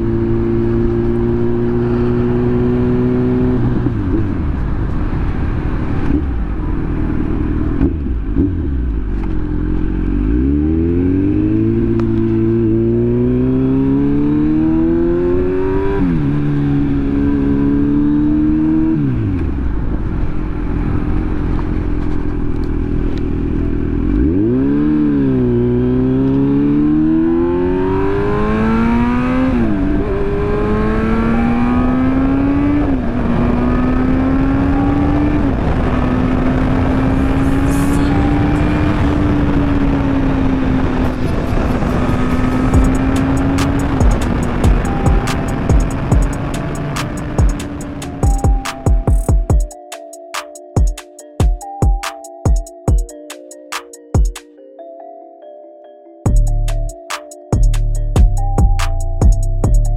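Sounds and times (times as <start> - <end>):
motorcycle engine revving: 0.0 - 49.6.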